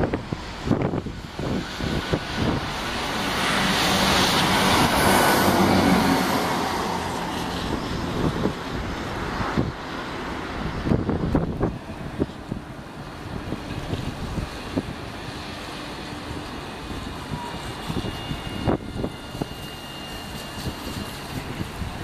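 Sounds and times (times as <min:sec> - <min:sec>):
electric tram passing: 0:00.0 - 0:22.0
wind buffeting microphone: 0:00.0 - 0:22.0.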